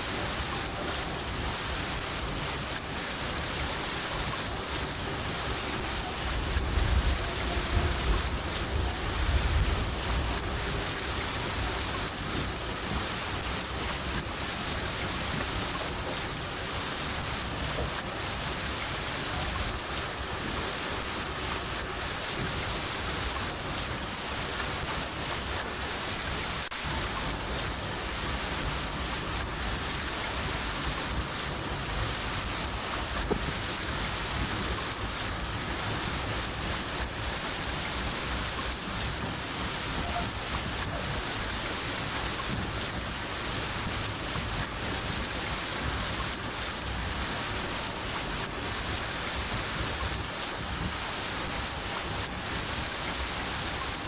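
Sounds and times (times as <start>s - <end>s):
cricket chirping: 0.0s - 54.0s
rain hissing: 0.0s - 54.0s.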